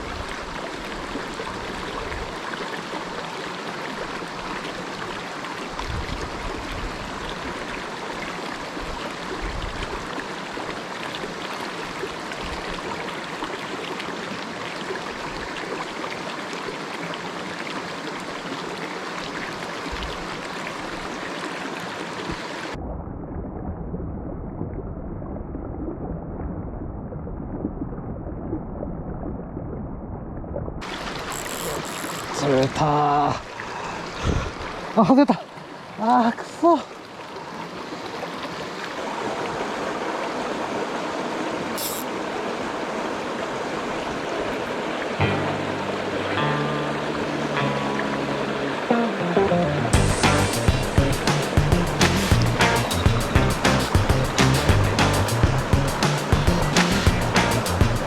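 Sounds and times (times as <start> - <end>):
stream water rushing over rocks: 0.0 - 22.8, 30.8 - 58.0.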